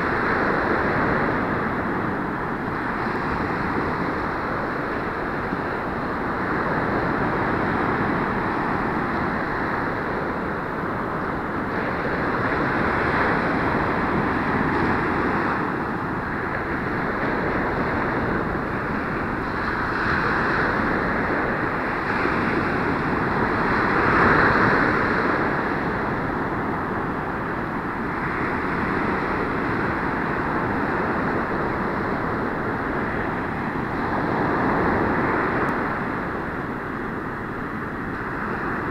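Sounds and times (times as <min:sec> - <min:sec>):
ocean surf breaking on beach: 0:00.0 - 0:38.9
wind buffeting microphone: 0:00.0 - 0:38.9.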